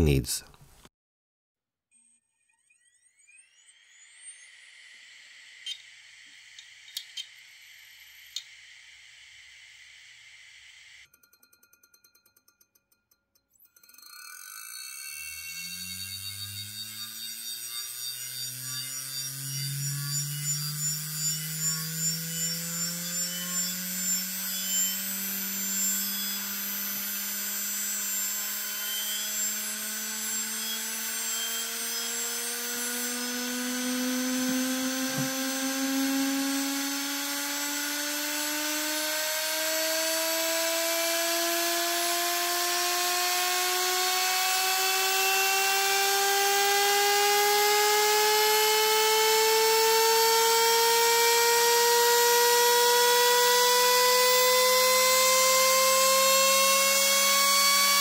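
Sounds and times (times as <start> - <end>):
motor whine climbing in pitch: 2.0 - 11.1, 14.1 - 58.0.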